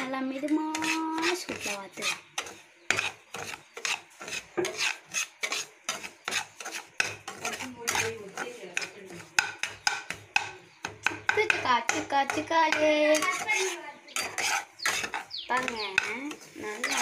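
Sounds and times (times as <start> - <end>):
spoon scraping metal pan: 0.0 - 17.0.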